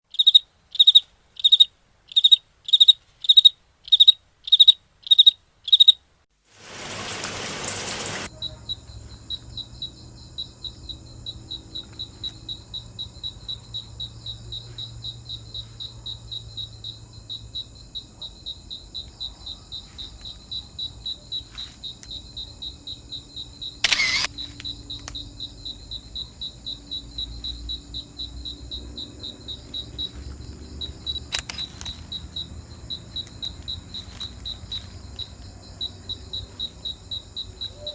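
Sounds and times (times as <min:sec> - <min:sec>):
crickets chirping: 0:00.1 - 0:06.2, 0:08.3 - 0:37.9.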